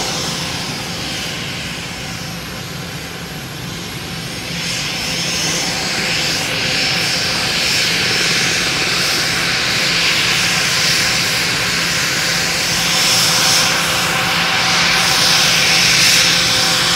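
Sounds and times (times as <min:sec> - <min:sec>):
jet engines whining: 0:00.0 - 0:16.9.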